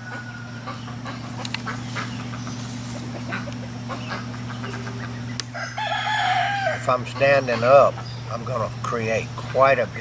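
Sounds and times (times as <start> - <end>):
ducks quacking: 0.0 - 5.8, 6.8 - 10.0
low hum: 0.0 - 10.0.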